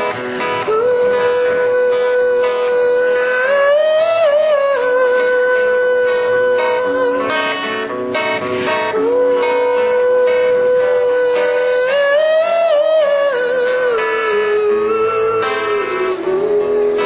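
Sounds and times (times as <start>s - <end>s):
acoustic guitar: 0.0s - 17.0s
woman singing long held notes: 0.5s - 7.6s, 8.8s - 17.0s.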